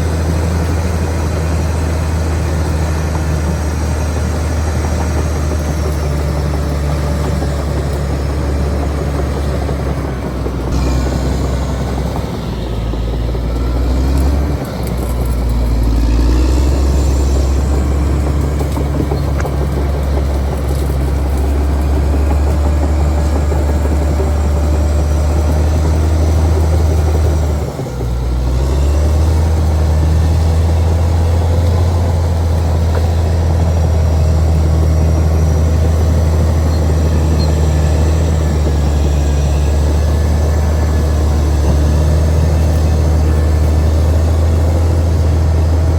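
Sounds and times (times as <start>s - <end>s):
bulldozer diesel engine drone: 0.0s - 45.9s.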